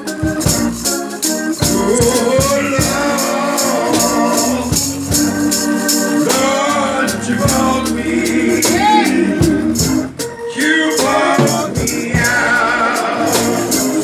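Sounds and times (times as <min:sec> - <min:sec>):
hand percussion beat: 0:00.0 - 0:14.0
organ chords: 0:00.0 - 0:14.0
man singing into microphone: 0:01.6 - 0:14.0.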